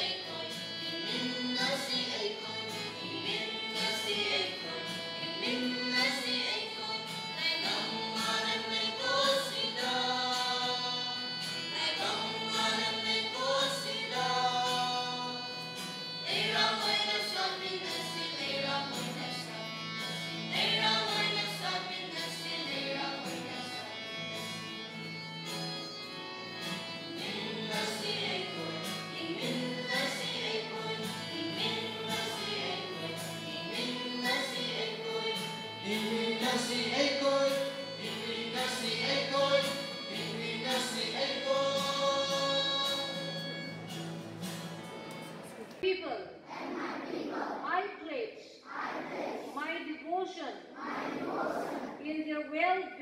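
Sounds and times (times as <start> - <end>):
choir singing gospel: 0.0 - 25.0, 26.7 - 43.9, 46.4 - 47.7, 48.6 - 49.6, 50.8 - 52.0.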